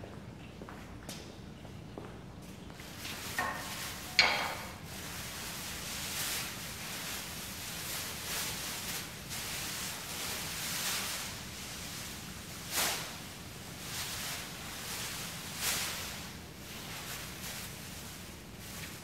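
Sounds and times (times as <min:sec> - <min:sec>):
soft rustling: 0:02.4 - 0:19.0
background hiss: 0:02.8 - 0:19.0.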